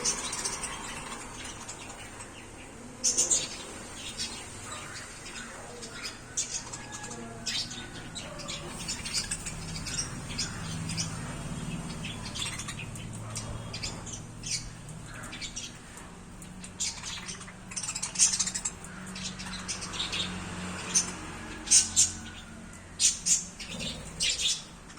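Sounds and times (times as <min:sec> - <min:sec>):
budgerigars chirping: 0:00.0 - 0:24.9.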